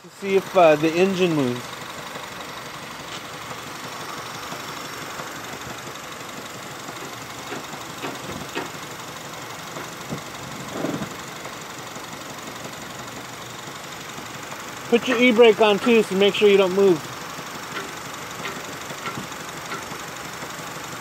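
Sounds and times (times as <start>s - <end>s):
car engine idling with knock: 0.0s - 21.0s.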